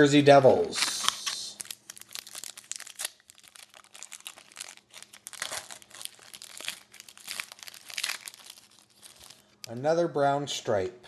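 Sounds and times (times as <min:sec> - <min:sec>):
foil wrapper crinkling and tearing: 0:00.7 - 0:09.8.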